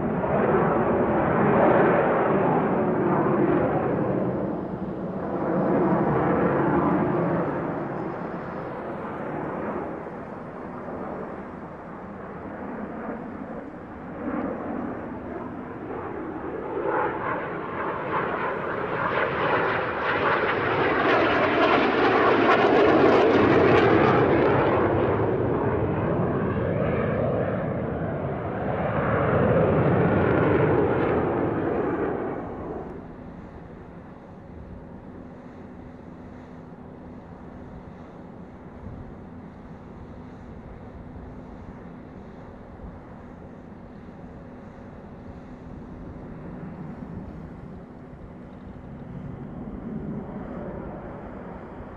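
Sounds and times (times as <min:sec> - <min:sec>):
jet engines roaring: 0:00.0 - 0:39.8, 0:44.2 - 0:51.9.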